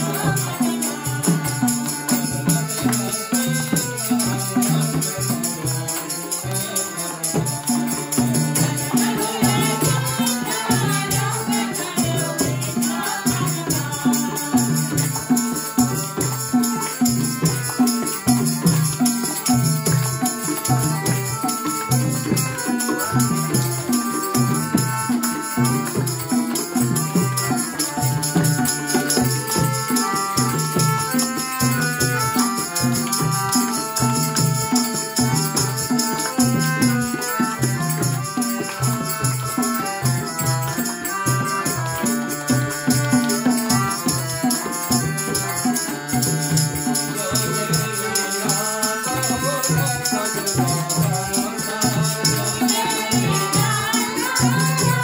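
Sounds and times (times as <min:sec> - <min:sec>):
shimmering hand percussion: 0:00.0 - 0:55.0
steady drum beat: 0:00.0 - 0:55.0.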